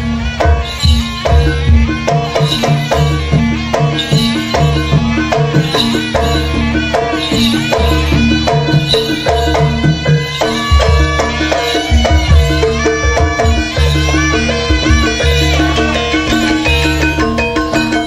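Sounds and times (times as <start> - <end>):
drums: 0.0 - 18.0
heavy bass: 0.0 - 18.0
repeating melodic pattern: 0.0 - 18.0.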